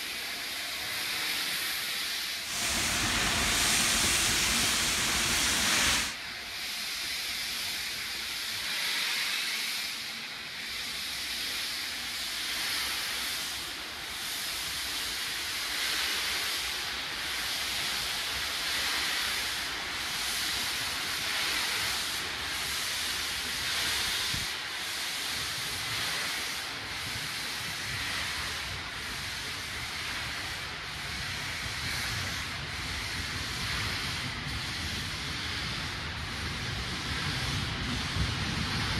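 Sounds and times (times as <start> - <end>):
steam train coaches rolling past: 0.0 - 38.9.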